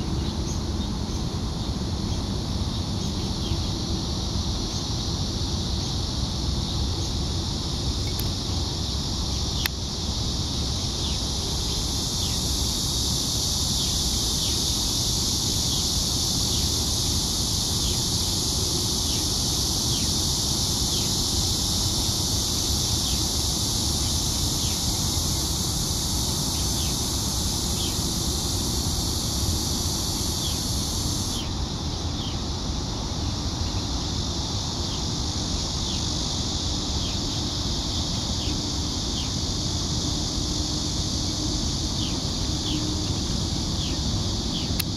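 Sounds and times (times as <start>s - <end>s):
steady high hiss: 0.0s - 44.9s.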